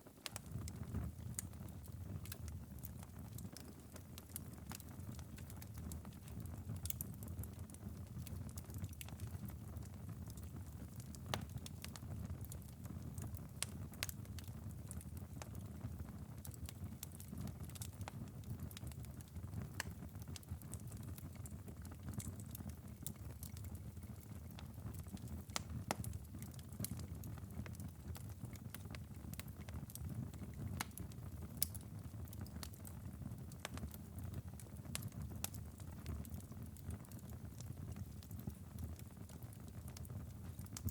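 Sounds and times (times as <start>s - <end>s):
fireplace embers crackling: 0.1s - 40.9s.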